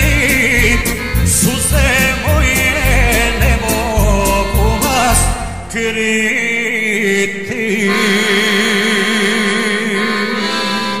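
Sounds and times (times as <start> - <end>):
accordions and keyboard chord: 0.0 - 11.0.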